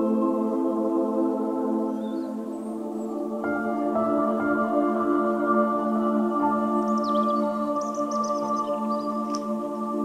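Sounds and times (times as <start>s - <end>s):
ambient music with long notes: 0.0s - 10.0s.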